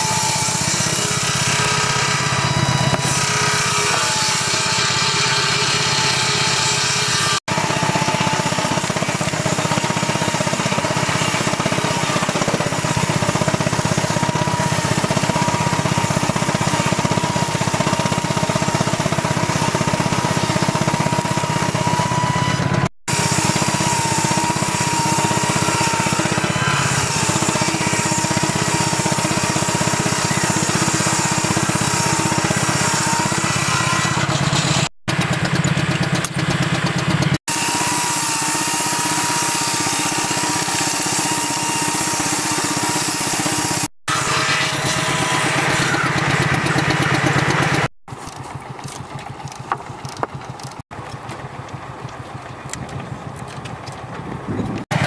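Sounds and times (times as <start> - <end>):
sawmill mechanical noise: 0.0 - 55.0.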